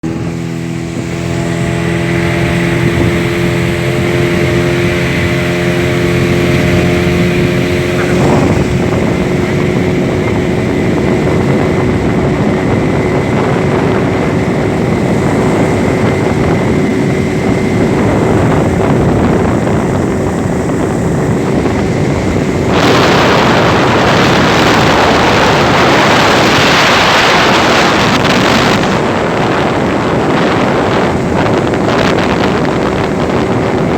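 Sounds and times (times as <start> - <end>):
boat engine humming: 0.0 - 33.9
wind rushing on microphone: 0.0 - 33.9.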